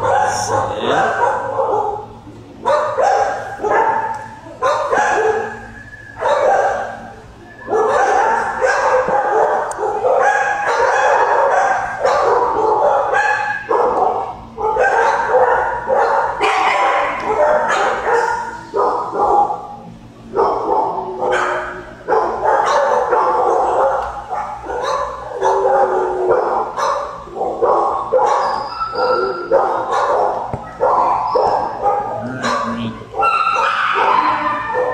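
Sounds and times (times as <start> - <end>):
dogs barking and yipping: 0.0 - 34.9.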